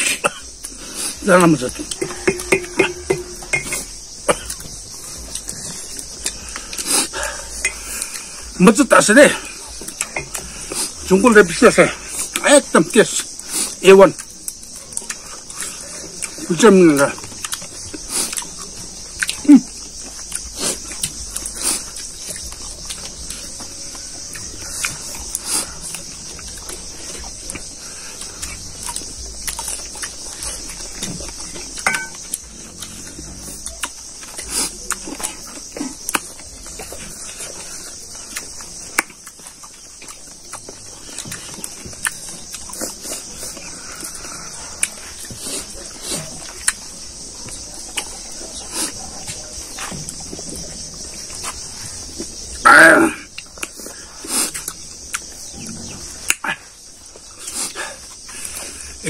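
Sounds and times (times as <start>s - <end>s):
people chewing and lip smacking: 0.0s - 52.6s, 53.2s - 59.0s
steady high hiss: 0.0s - 59.0s.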